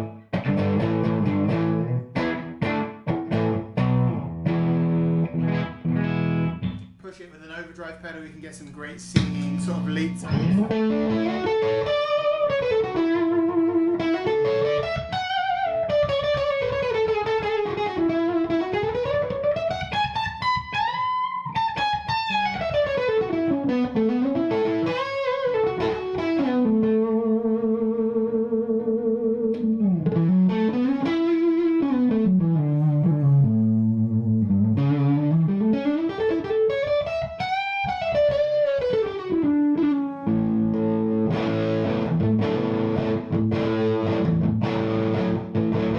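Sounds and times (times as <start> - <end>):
overdriven electric guitar lead: 0.0 - 7.0, 8.9 - 45.9.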